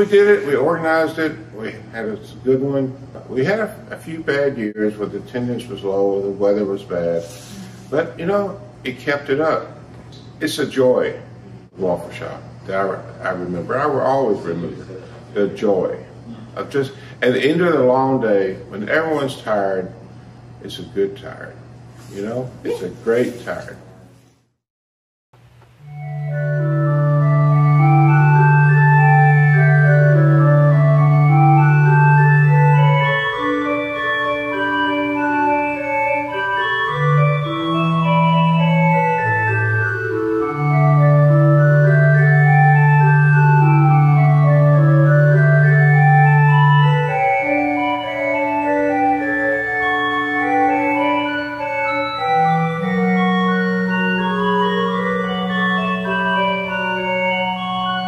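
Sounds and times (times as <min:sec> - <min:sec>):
organ music: 0:00.0 - 0:07.3, 0:10.5 - 0:21.4, 0:25.4 - 0:58.0.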